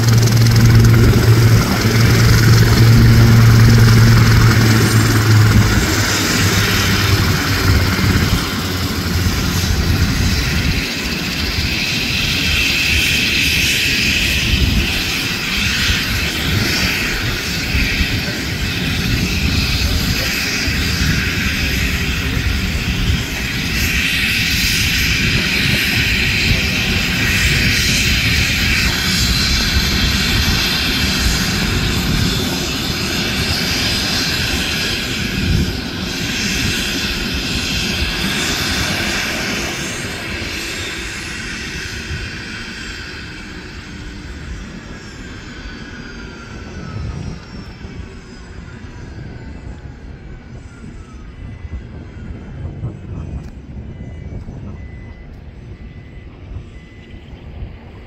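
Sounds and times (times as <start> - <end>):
helicopter rotor chopping: 0.0 - 48.6
turbine engine whine: 0.0 - 58.0.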